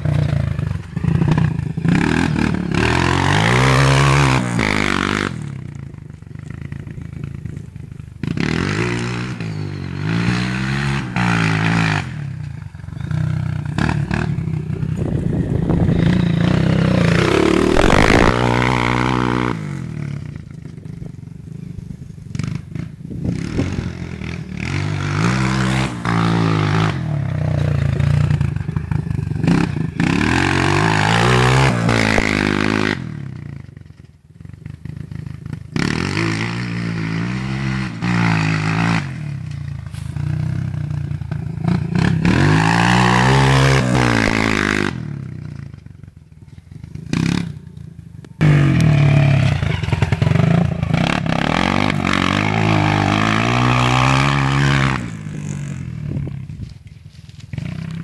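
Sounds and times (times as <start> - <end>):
motocross bike engine revving: 0.0 - 5.7, 8.2 - 20.4, 22.4 - 33.7, 34.7 - 45.8, 46.8 - 56.3.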